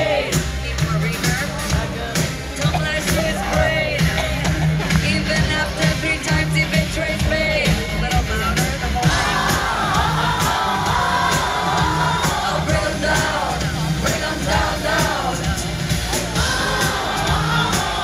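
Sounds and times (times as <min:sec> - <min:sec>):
pop song over sound system: 0:00.0 - 0:18.0.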